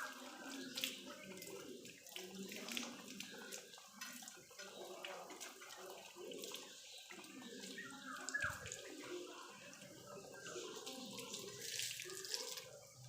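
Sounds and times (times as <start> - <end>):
water splashing and running: 0.0 - 13.0.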